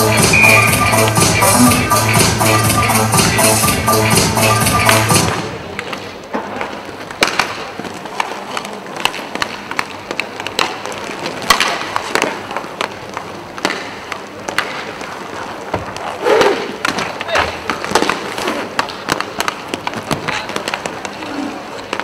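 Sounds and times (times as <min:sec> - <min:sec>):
hockey sticks clacking: 0:00.0 - 0:22.0
skate wheels rolling on plastic floor: 0:04.2 - 0:22.0.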